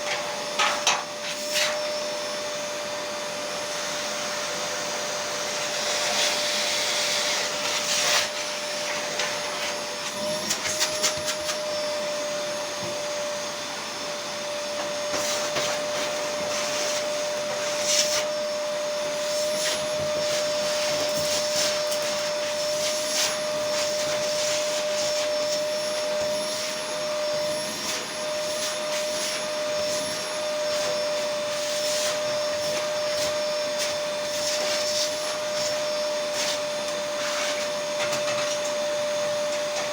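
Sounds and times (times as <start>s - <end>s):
blower humming with rushing air: 0.0s - 39.9s.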